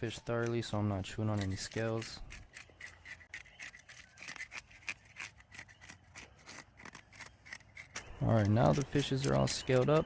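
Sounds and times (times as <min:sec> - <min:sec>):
fish scaler scraping scales: 0:00.0 - 0:10.0.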